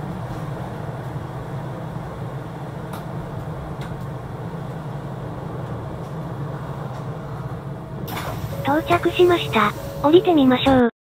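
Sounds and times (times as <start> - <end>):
monorail train motor hum: 0.0 - 10.9.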